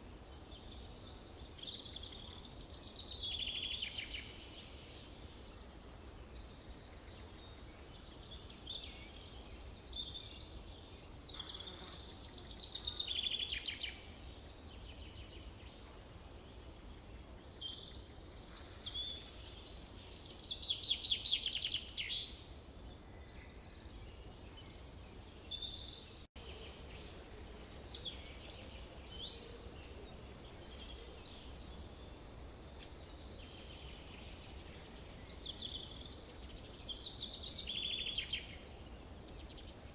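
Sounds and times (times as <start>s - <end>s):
songbirds chirping: 0.0s - 39.9s
trilled bird songs: 0.0s - 39.9s.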